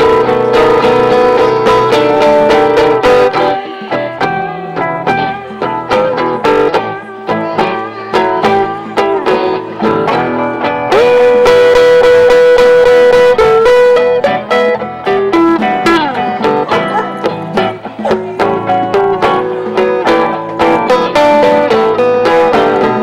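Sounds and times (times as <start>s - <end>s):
band music with guitar solo: 0.0s - 23.0s.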